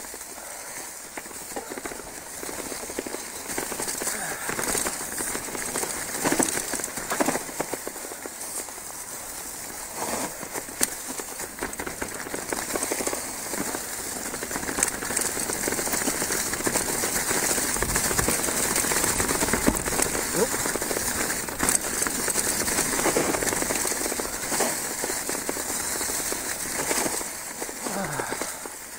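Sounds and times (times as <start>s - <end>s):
bike tyres rustling leaves: 0.0s - 28.9s
bike clicks and knocks: 1.1s - 28.8s.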